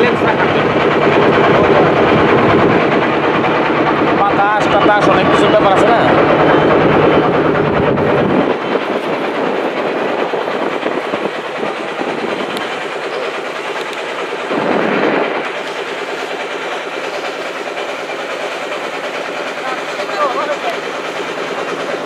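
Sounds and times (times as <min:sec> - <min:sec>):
motor boat engine chugging: 0:00.0 - 0:22.0.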